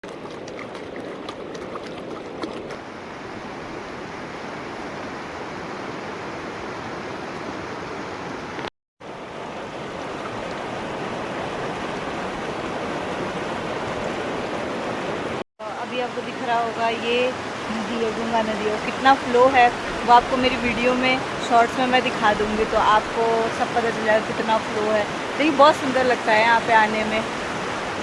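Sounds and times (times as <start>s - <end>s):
fast-flowing river rushing: 0.2s - 28.0s.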